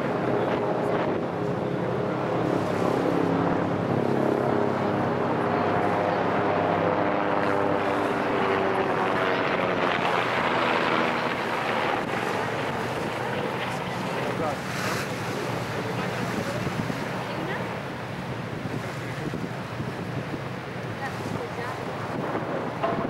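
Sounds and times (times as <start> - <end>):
boat engine running: 0.0 - 23.0
wind on microphone: 0.0 - 23.0.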